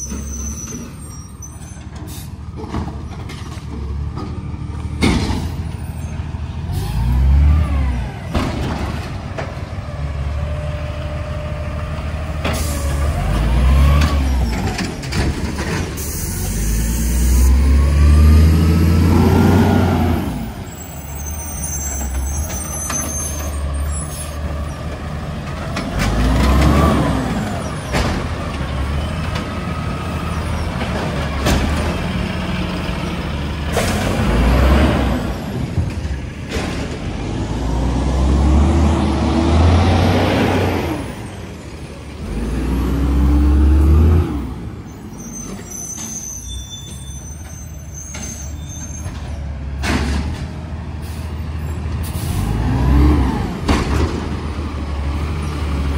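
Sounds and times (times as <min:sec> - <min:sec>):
diesel truck engine revving: 0:03.9 - 0:45.8, 0:49.0 - 0:55.9.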